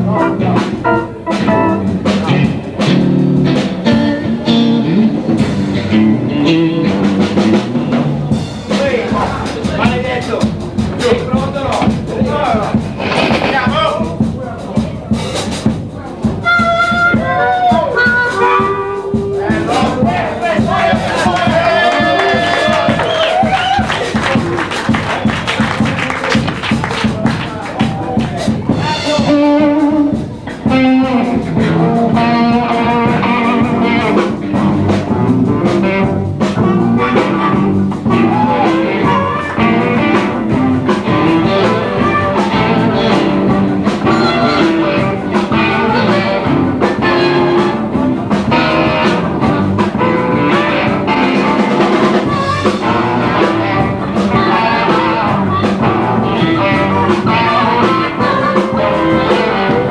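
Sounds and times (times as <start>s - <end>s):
blues band playing live: 0.0s - 59.9s.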